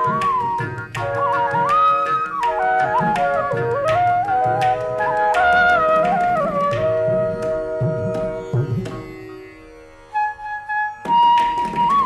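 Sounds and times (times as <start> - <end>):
flute playing gliding notes: 0.0 - 12.0.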